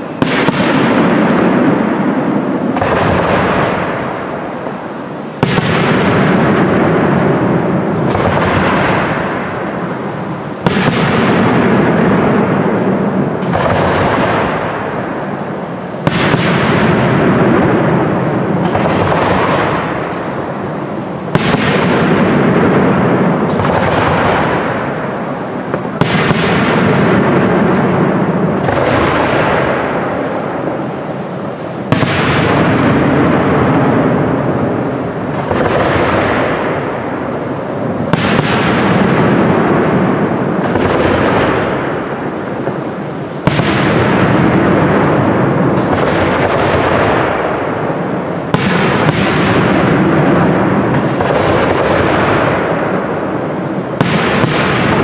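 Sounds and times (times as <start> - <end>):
firework crackle: 0.0 - 55.0
firework shells bursting: 0.0 - 55.0.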